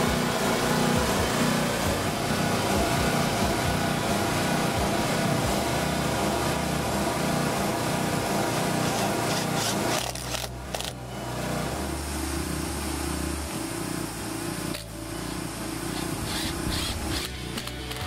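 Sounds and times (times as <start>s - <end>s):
steady mechanical drone: 0.0s - 18.0s.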